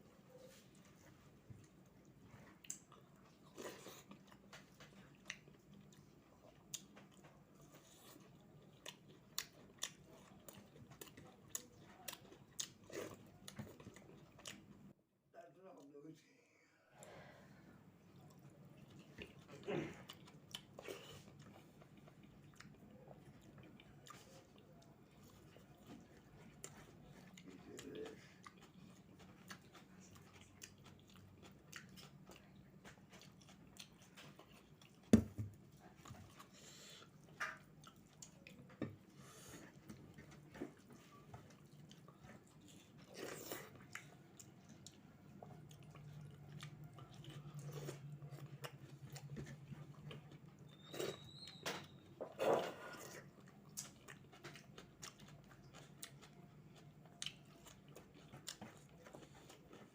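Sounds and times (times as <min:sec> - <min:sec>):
faint low hum: 0:00.0 - 0:59.9
person chewing crunchy food: 0:00.4 - 0:14.7, 0:18.0 - 0:59.9.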